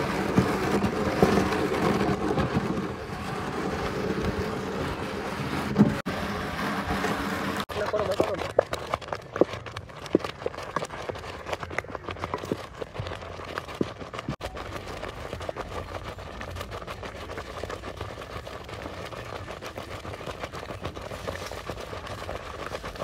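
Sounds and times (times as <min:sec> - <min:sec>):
stick scraping and knocking pot: 0:00.0 - 0:23.0.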